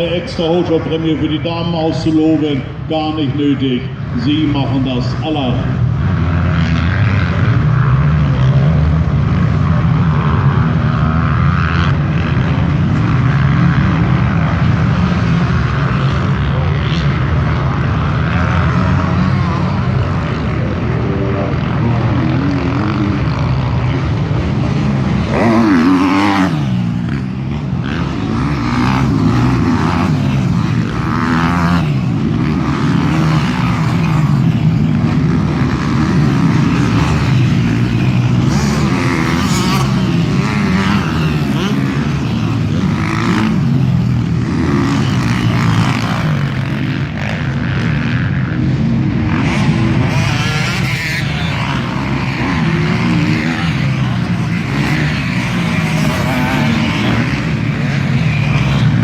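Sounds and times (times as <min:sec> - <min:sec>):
motocross motorcycles racing: 0:00.0 - 0:59.0
motorcycle revving: 0:00.0 - 0:59.0.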